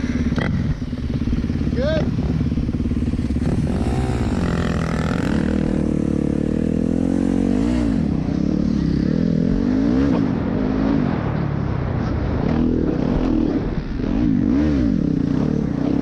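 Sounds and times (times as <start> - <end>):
dirt bike engine revving: 0.0 - 11.2, 12.4 - 16.0.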